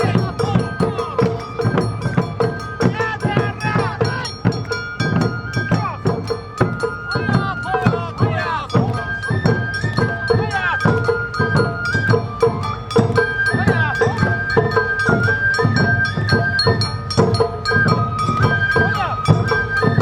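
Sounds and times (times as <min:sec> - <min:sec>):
bamboo flute melody: 0:00.0 - 0:20.0
drums beating: 0:00.0 - 0:20.0
voices shouting rhythmic calls: 0:00.0 - 0:20.0.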